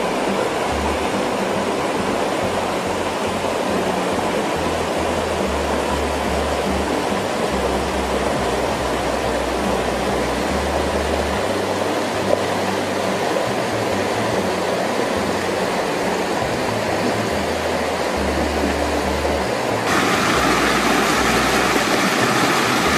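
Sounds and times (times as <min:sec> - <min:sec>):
river stream rushing: 0:00.0 - 0:22.9.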